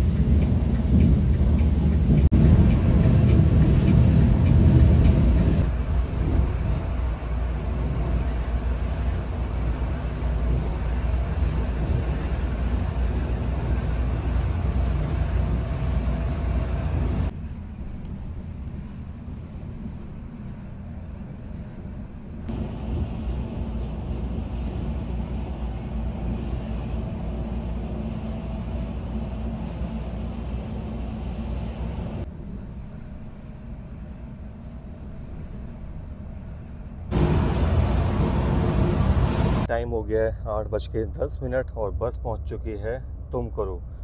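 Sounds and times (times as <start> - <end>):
coach engine low rumble: 0.0 - 44.0.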